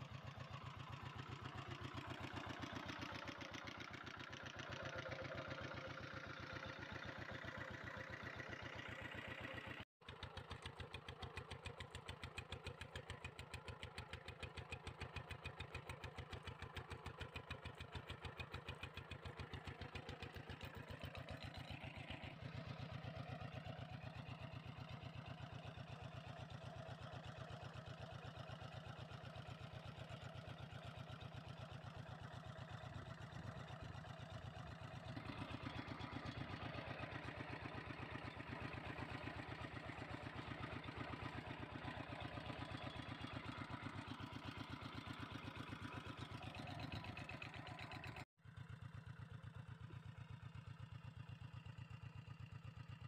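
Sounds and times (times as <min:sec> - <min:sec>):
diesel engine chugging: 0:00.0 - 0:53.0.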